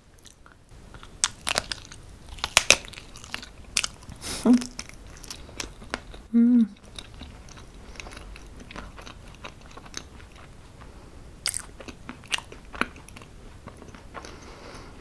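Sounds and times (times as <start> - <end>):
person chewing with wet smacks: 0.2 - 14.9.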